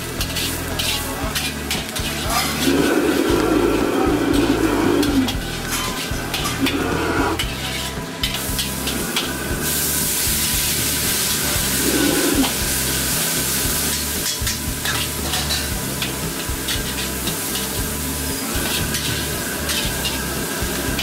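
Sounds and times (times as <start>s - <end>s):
food sizzling in wok: 0.0s - 21.0s
metal spatula scraping wok: 0.0s - 21.0s.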